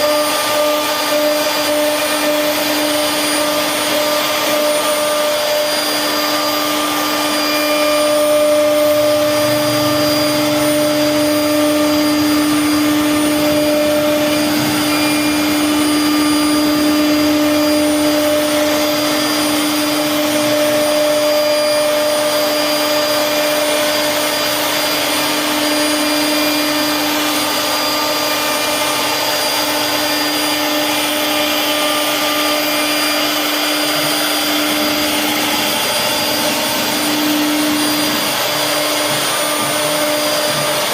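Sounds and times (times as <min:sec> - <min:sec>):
router spindle whine: 0:00.0 - 0:40.9
wood cutting hiss: 0:00.0 - 0:40.9.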